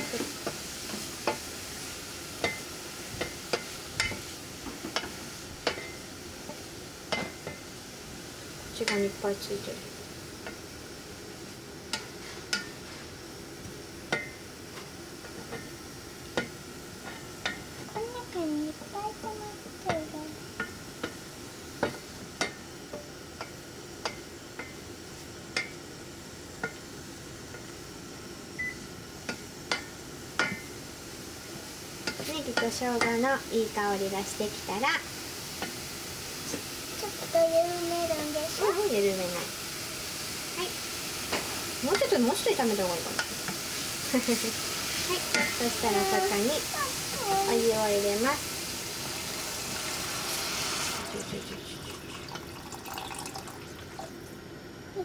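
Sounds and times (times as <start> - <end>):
onions sizzling in oil: 0.0 - 55.0.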